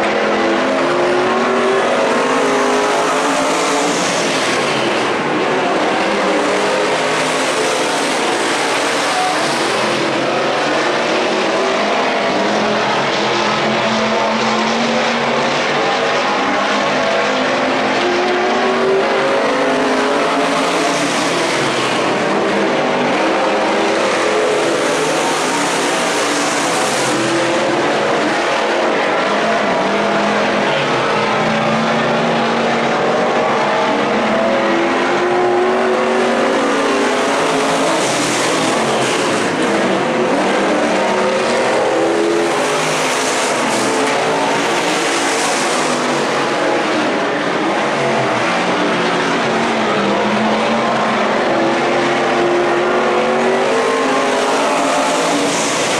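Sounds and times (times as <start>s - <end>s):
stock car engines racing: 0.0s - 55.9s.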